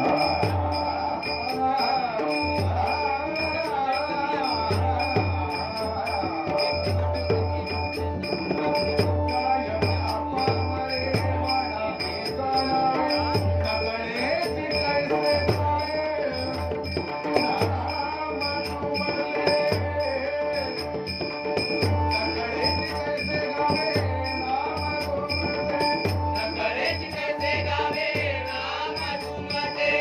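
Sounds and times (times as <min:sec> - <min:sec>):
harmonium tones: 0:00.0 - 0:30.0
jingling hand cymbals: 0:00.0 - 0:30.0.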